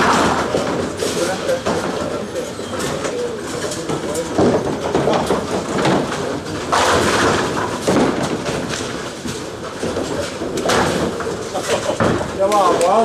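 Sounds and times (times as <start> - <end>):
bowling balls rolling: 0.0 - 13.0
bowling pins crashing: 0.0 - 13.0.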